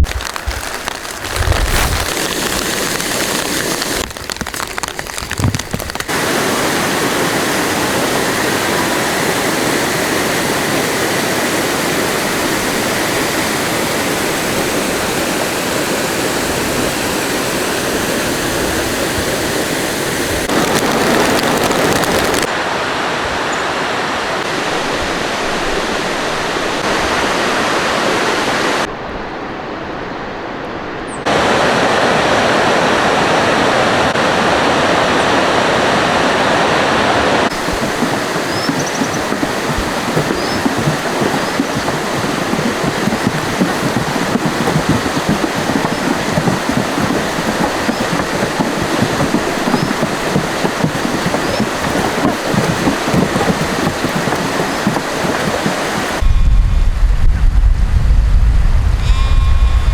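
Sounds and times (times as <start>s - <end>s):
fast-flowing water rushing: 0.0s - 28.9s, 31.3s - 56.2s.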